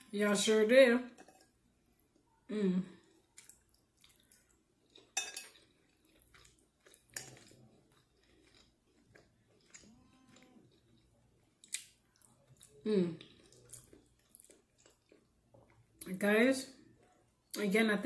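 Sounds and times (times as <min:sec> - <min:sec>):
soft chewing: 0:01.2 - 0:16.1, 0:16.7 - 0:17.6.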